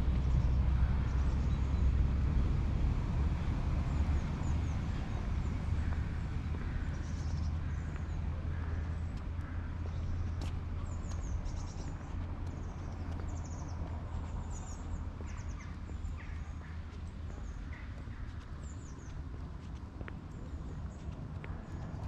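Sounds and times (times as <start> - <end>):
low street rumble: 0.0 - 22.0
small birds chirping: 4.0 - 22.0.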